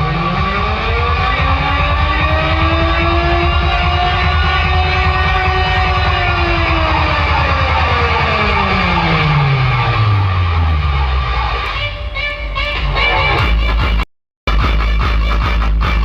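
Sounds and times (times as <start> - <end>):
bass-heavy dj music: 0.0 - 16.0
falling pitch sweep: 0.0 - 16.0.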